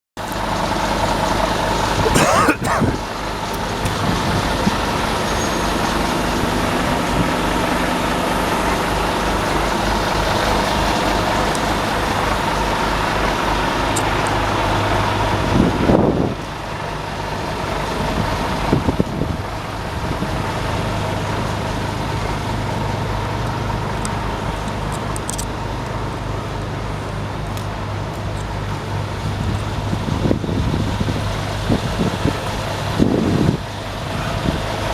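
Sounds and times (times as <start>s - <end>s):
diesel truck engine running: 0.2s - 34.9s.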